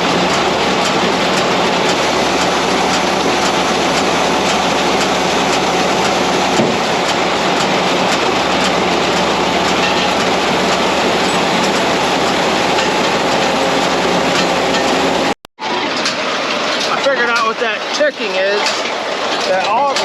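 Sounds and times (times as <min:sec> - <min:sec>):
tractor and baler running: 0:00.0 - 0:20.0.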